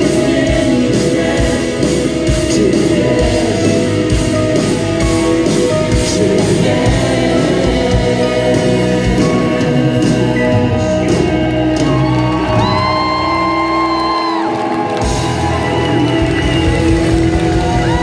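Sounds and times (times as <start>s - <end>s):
backing singers: 0.0s - 18.0s
lead singer: 0.0s - 18.0s
live band playing a song: 0.0s - 18.0s.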